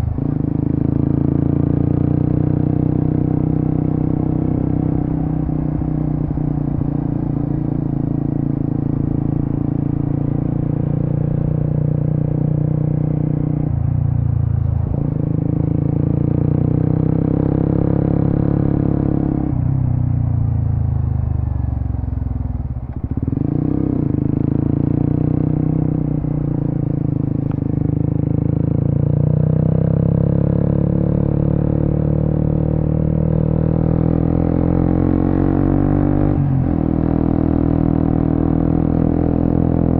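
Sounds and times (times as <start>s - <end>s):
motorcycle engine revving: 0.0s - 13.8s, 14.7s - 19.7s, 22.9s - 39.9s.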